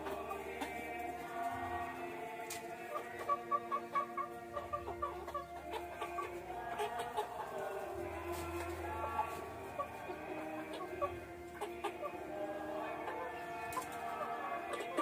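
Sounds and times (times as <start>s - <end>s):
background music: 0.0s - 15.0s
chickens clucking: 0.0s - 15.0s.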